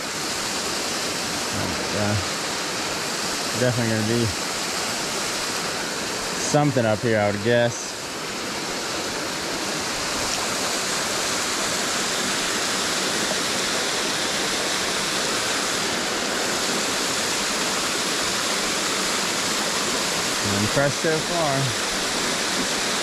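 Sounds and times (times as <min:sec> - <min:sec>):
waterfall rushing and splashing: 0:00.0 - 0:23.0.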